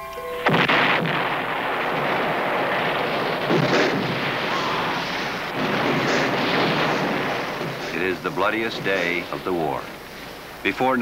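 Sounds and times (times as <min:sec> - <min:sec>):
cannon blast: 0:00.4 - 0:10.7
gunfire and explosions: 0:00.4 - 0:10.8.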